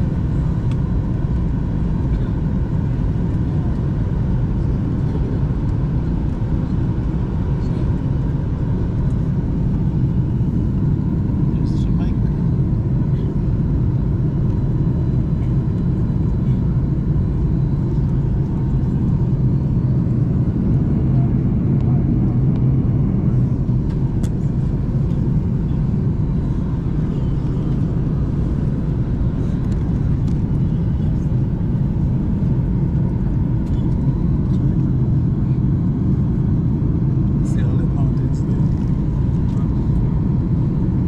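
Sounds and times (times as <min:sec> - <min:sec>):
airliner cabin engine rumble: 0:00.0 - 0:41.0.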